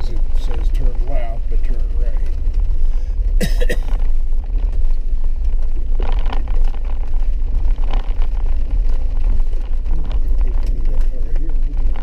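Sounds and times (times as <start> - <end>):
vehicle rumbling on dirt road: 0.0 - 12.0.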